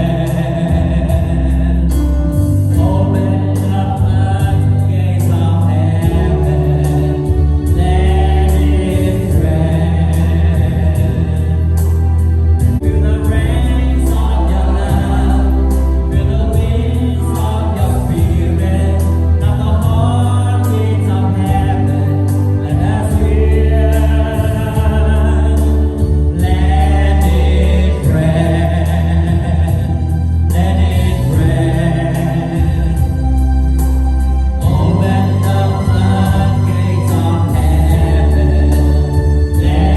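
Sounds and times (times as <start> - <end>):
band with bass and percussion: 0.0 - 39.9
gospel choir singing: 0.0 - 39.9.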